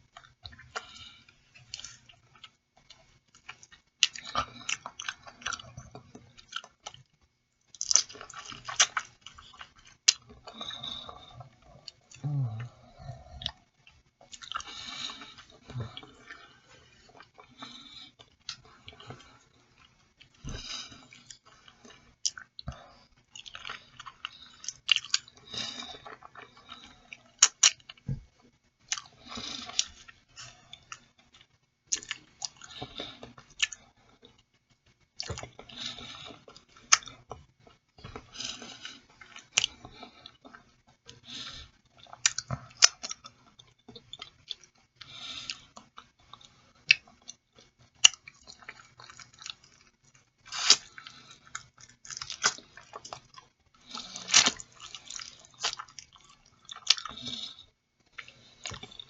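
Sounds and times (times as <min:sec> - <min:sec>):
wet chewing and mouth smacks: 0:00.1 - 0:07.1, 0:07.7 - 0:12.8, 0:13.4 - 0:28.2, 0:28.8 - 0:41.2, 0:41.8 - 0:59.0.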